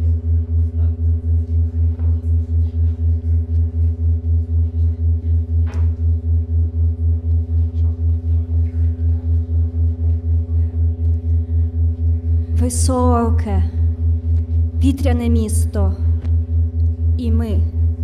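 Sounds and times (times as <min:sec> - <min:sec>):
pulsing synth bass: 0:00.0 - 0:18.0.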